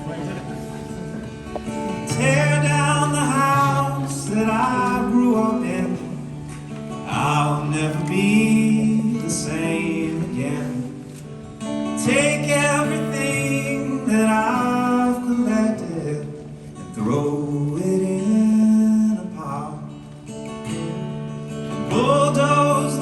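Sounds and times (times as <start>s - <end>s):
man singing: 0.0s - 20.1s, 20.7s - 23.0s
acoustic guitar chords: 0.0s - 23.0s.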